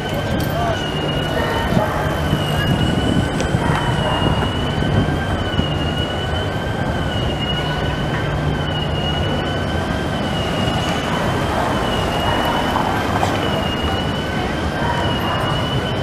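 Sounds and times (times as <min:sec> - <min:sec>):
tram wheel squeal: 0:00.0 - 0:16.0.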